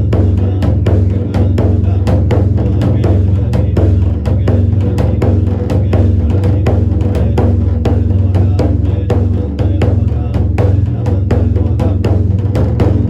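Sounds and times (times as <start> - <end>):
steady low drone: 0.0 - 13.0
temple drum beating fast: 0.0 - 13.0.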